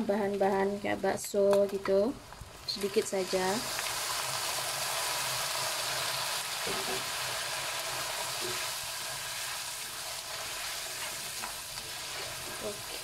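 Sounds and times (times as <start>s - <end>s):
steady hiss of boiling water: 0.0s - 13.0s
food sizzling in hot oil: 2.1s - 13.0s.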